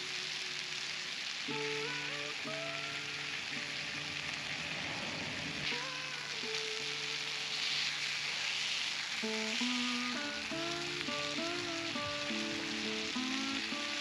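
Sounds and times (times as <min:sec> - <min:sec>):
slow sustained melody: 0:00.0 - 0:08.5, 0:09.2 - 0:14.0
steady hiss: 0:00.0 - 0:14.0.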